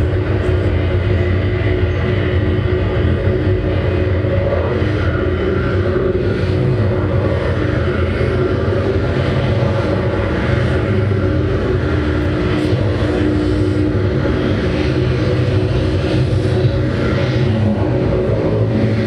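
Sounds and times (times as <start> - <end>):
experimental band drone: 0.0 - 19.0.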